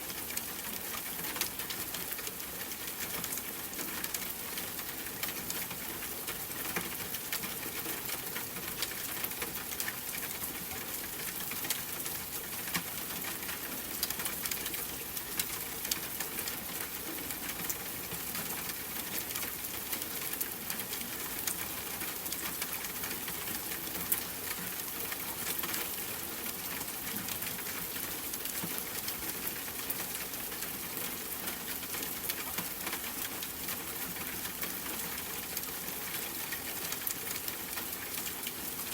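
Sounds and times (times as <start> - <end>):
rain pattering on window: 0.0 - 38.9.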